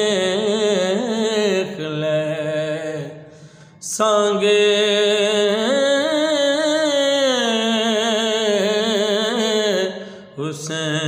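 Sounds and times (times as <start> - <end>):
man singing a held note: 1.8 - 11.0.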